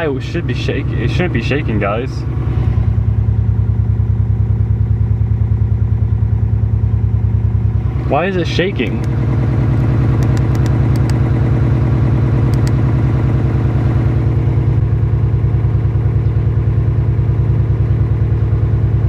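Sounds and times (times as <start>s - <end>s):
misfiring car engine idling: 0.2s - 19.0s.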